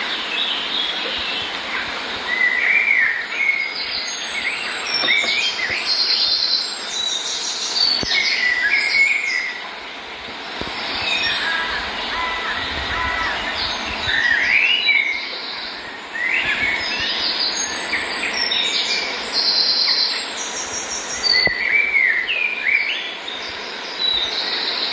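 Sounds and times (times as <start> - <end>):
songbirds chirping and singing: 0.0 - 24.9
steady background hiss: 0.0 - 24.9.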